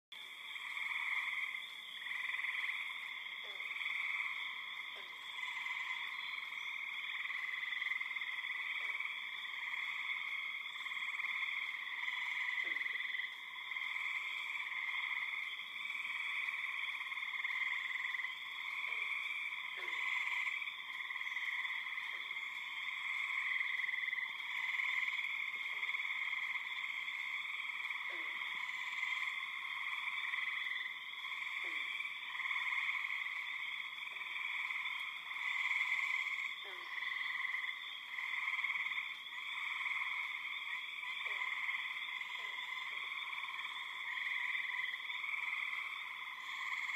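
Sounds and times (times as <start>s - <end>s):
frogs calling in chorus: 0.2s - 46.9s.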